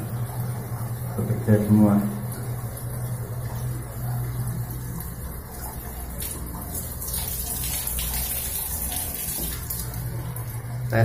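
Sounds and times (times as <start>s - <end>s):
steady low hum: 0.0s - 11.0s
water running from a tap: 0.0s - 11.0s.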